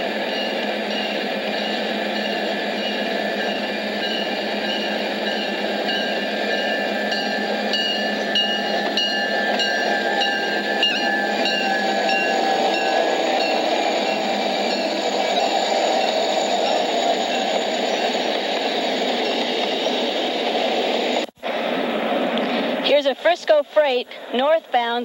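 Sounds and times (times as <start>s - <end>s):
wheels clicking over rail joints: 0.0s - 20.7s
freight train rumbling past: 0.0s - 24.7s.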